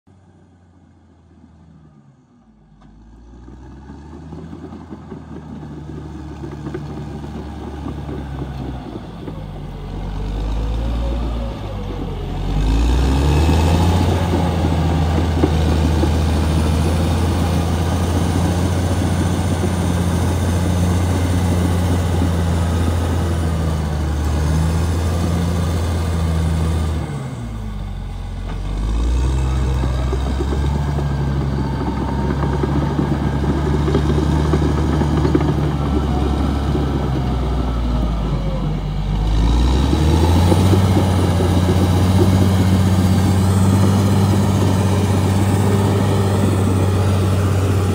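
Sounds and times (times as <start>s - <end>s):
bulldozer diesel engine under load: 0.1s - 47.9s.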